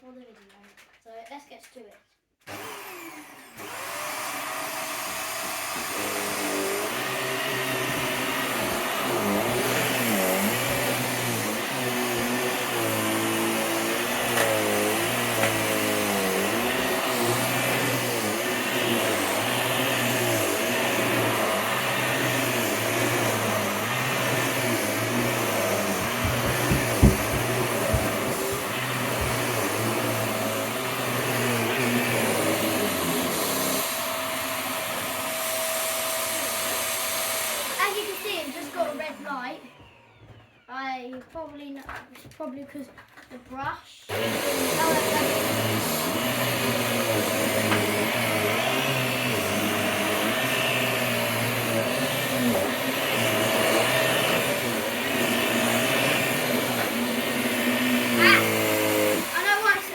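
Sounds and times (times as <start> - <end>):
vacuum cleaner motor whine: 2.4 - 40.9, 44.1 - 59.9
vacuum cleaner low rumble: 2.5 - 40.9, 44.1 - 59.9.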